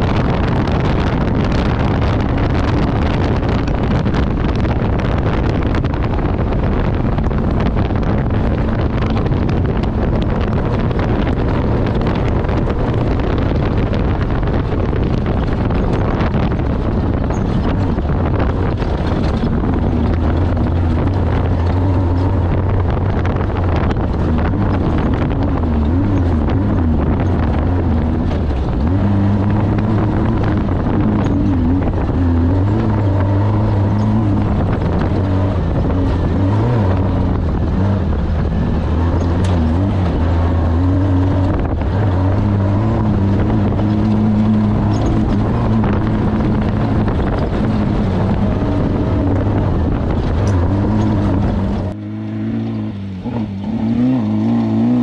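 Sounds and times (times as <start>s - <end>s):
race vehicle engine revving: 0.0s - 55.0s.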